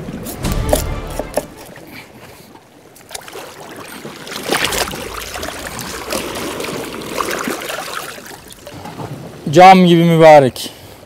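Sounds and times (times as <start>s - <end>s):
water splashing against rocks: 0.0s - 9.6s.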